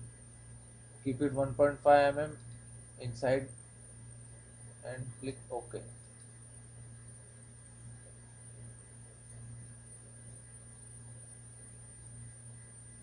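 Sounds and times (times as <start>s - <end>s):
high-pitched whine: 0.0s - 13.0s
light hiss: 0.0s - 13.0s
low electrical hum: 0.0s - 13.0s.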